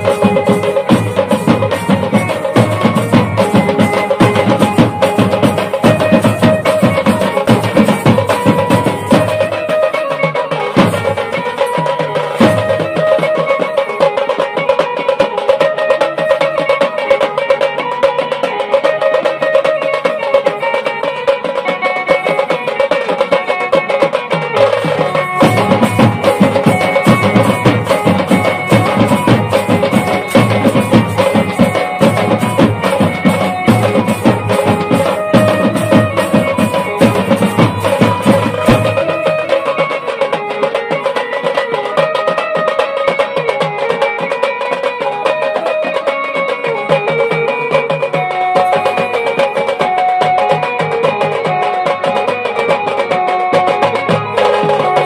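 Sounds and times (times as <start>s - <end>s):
fast drum band beat: 0.0s - 55.0s.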